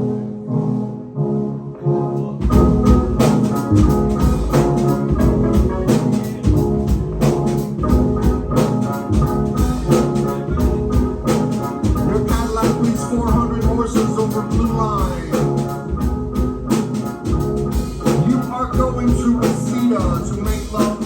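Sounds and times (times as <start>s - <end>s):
keyboard chords: 0.0s - 21.0s
drums and bass beat: 2.4s - 21.0s.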